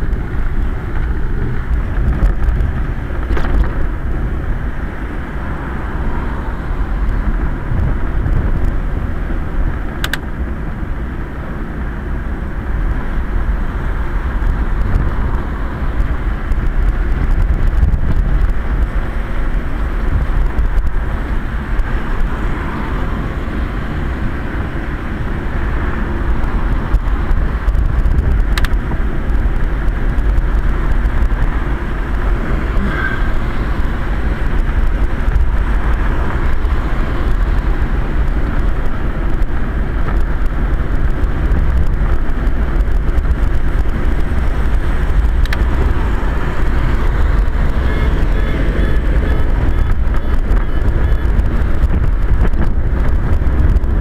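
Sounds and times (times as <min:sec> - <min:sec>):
road and wind rumble: 0:00.0 - 0:54.0.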